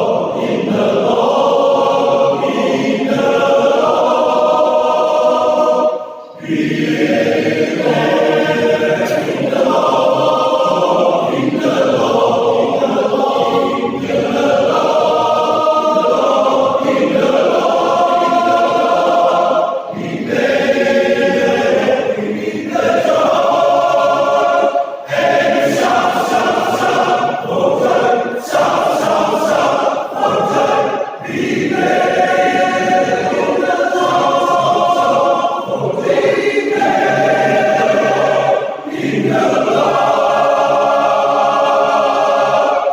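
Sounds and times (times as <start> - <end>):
men's choir singing: 0.0 - 42.9.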